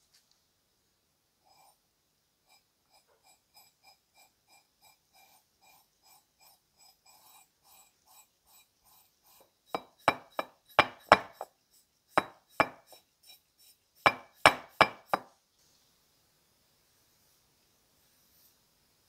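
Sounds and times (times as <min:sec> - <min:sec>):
paintbrush stroking on steel: 0:01.4 - 0:01.8, 0:02.4 - 0:16.0, 0:16.9 - 0:18.6.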